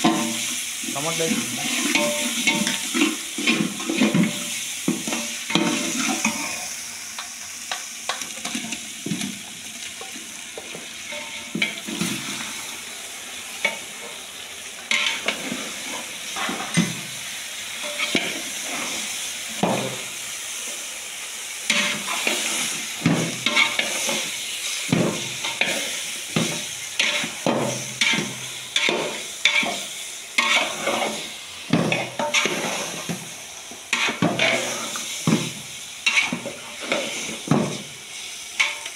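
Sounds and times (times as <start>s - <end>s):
meat sizzling in a metal pot: 0.0s - 38.9s.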